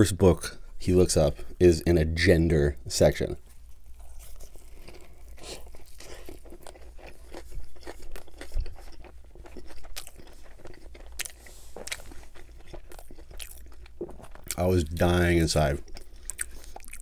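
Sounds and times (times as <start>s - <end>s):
mouth chewing with crunches: 3.4s - 17.0s.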